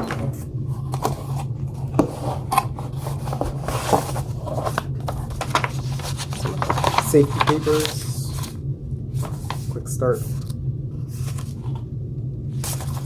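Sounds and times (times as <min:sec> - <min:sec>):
cardboard and paper rustling: 0:00.0 - 0:10.5, 0:11.1 - 0:11.8, 0:12.6 - 0:13.0
steady low hum: 0:00.0 - 0:13.0.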